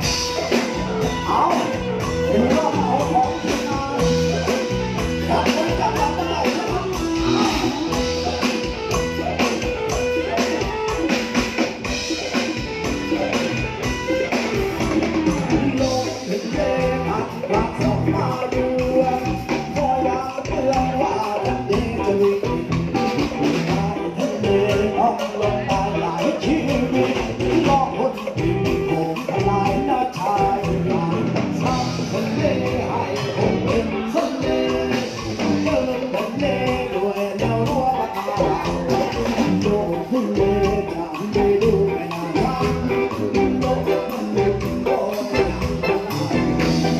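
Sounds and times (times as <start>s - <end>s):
drum kit beat: 0.0s - 46.9s
guitar: 0.0s - 46.9s
live band playing: 0.0s - 46.9s.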